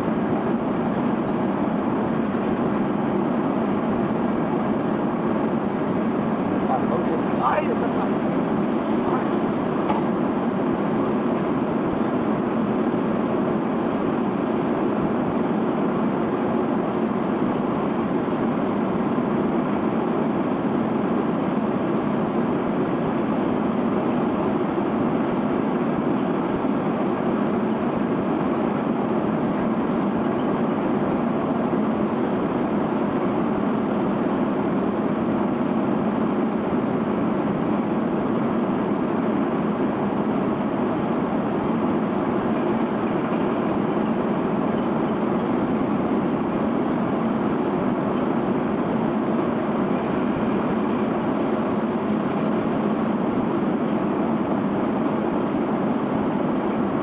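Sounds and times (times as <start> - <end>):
conveyor belt carrying sand: 0.0 - 57.0.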